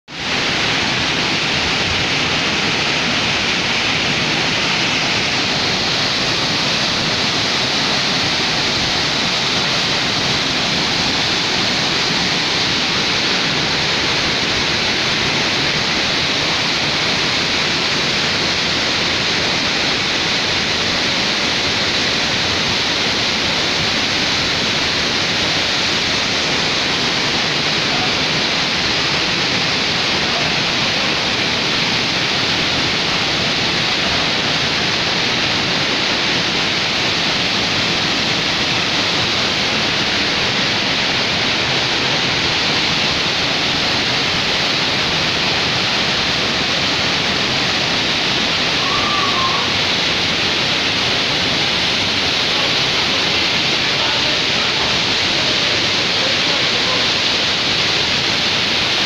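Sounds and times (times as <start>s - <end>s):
water rushing over rocks: 0.1s - 59.0s.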